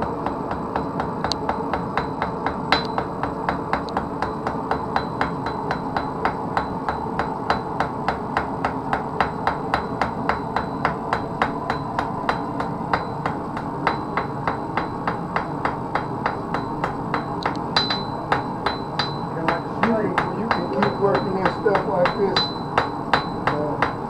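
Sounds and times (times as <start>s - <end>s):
hammer striking metal on anvil: 0.2s - 24.0s.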